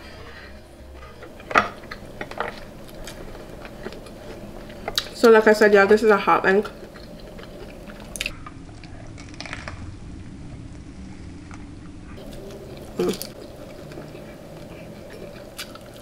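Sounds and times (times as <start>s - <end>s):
chewing sausage: 1.2s - 16.0s.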